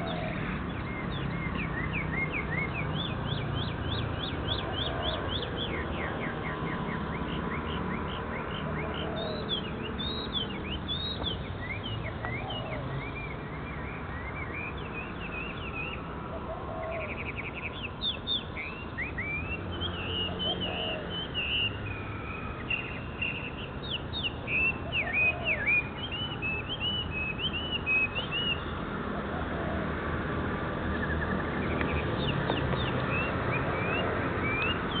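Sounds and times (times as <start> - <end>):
small birds chirping: 0.0 - 29.6, 30.5 - 35.0.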